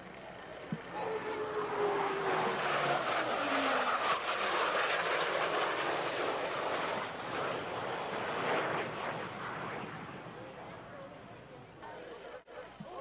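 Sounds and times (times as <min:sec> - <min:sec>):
jet roar overhead: 0:00.8 - 0:11.9.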